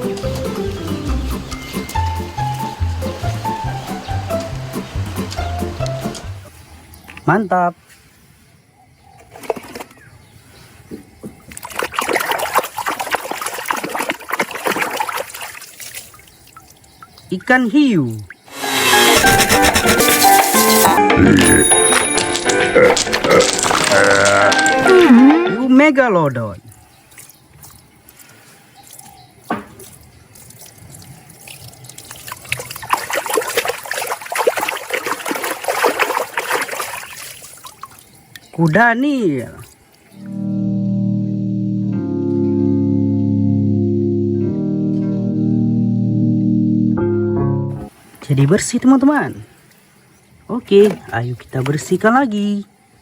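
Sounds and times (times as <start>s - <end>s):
water splashing and trickling: 0.0s - 8.4s, 9.2s - 18.6s, 20.3s - 40.3s, 47.8s - 52.5s.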